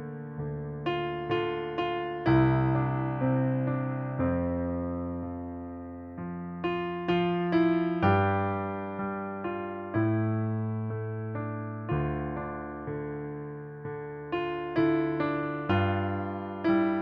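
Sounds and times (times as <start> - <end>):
slow hymn on piano: 0.0 - 17.0.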